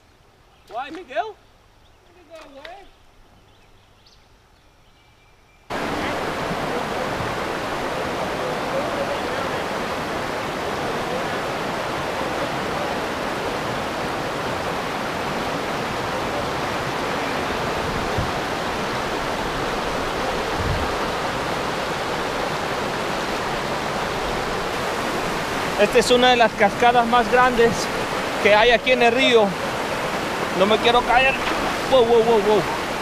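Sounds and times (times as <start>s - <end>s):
river rapids rushing: 5.7s - 33.0s.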